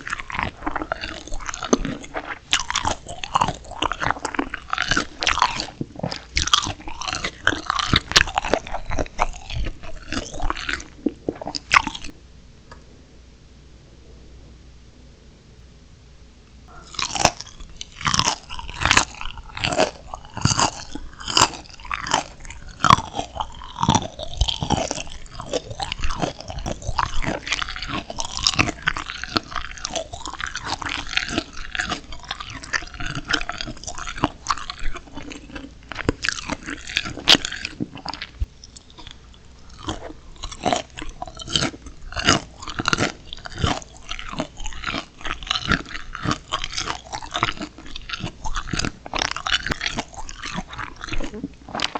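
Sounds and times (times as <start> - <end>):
crunching and chewing shrimp: 0.0 - 12.2, 16.7 - 51.9.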